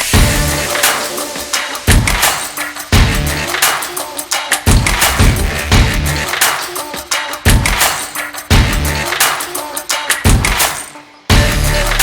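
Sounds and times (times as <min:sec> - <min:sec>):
music with heavy drum beat: 0:00.0 - 0:12.0.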